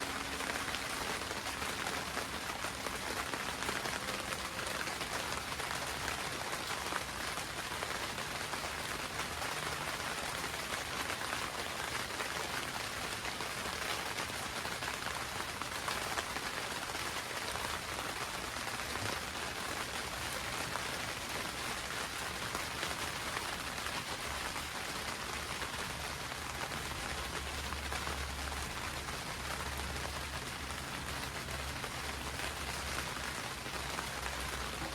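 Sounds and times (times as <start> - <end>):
rain drumming on a greenhouse roof: 0.0 - 34.9.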